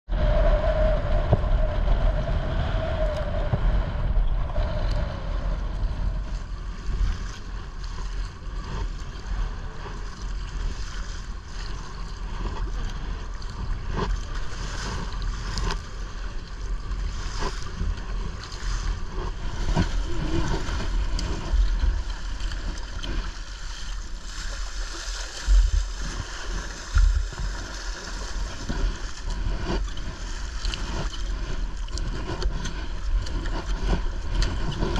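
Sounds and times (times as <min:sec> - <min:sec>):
wind buffeting microphone: 0:00.1 - 0:34.9
waves splashing: 0:00.2 - 0:34.9
paddle strokes splashing: 0:05.6 - 0:34.9.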